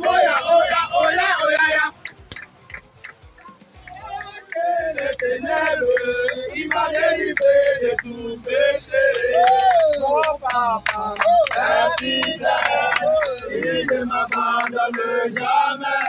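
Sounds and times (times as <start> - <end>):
young men singing a chant: 0.0 - 2.0, 4.0 - 16.0
hand claps: 1.4 - 8.1, 9.0 - 16.0.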